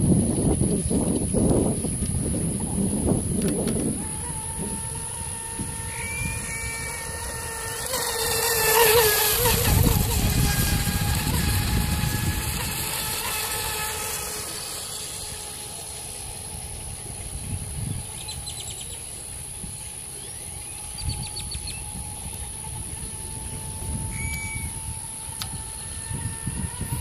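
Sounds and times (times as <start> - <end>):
distant electric motor whine: 0.0 - 27.0
wind on microphone: 0.0 - 27.0.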